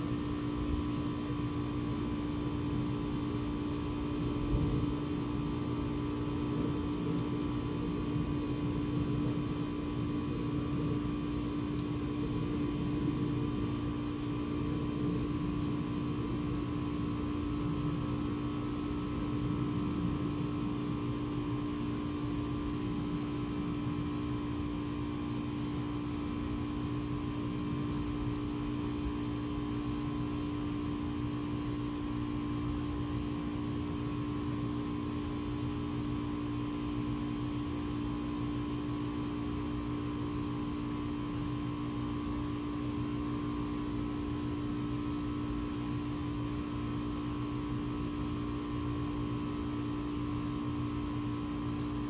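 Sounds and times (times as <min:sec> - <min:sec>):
steady hum of held tones: 0:00.0 - 0:52.0.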